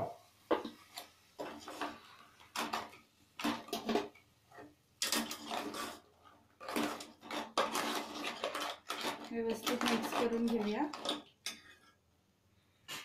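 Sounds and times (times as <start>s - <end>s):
ladle scraping metal pot: 1.4s - 12.0s.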